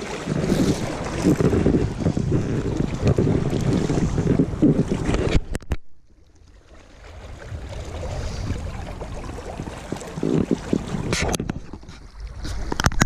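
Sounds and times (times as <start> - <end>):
wind buffeting microphone: 0.0 - 5.7, 6.6 - 13.0.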